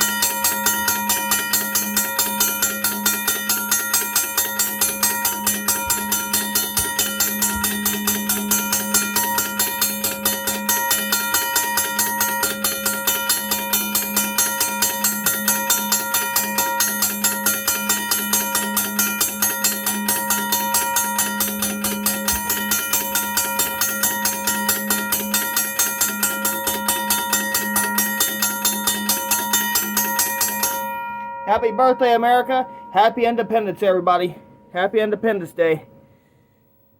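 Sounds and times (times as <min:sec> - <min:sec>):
railroad crossing bell ringing: 0:00.0 - 0:36.6.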